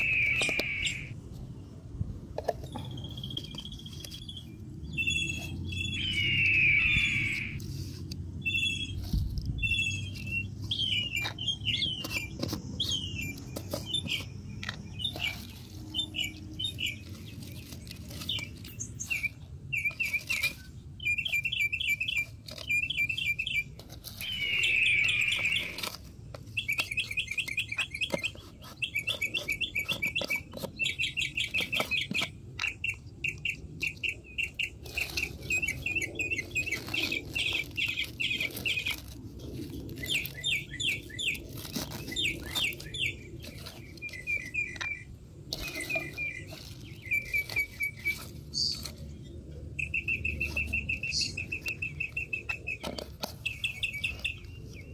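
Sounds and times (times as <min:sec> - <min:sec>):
small birds chirping: 0:00.0 - 0:01.7, 0:02.6 - 0:07.7, 0:08.4 - 0:54.9.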